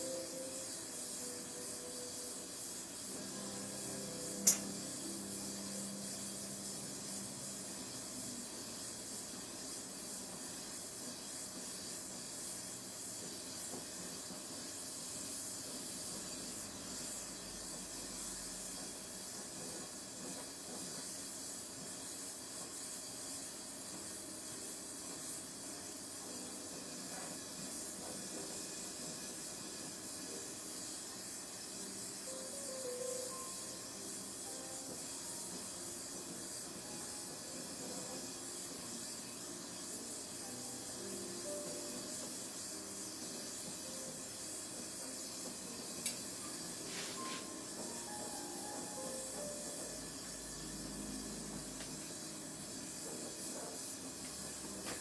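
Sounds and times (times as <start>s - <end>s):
gas torch flame hissing: 0.0s - 55.0s.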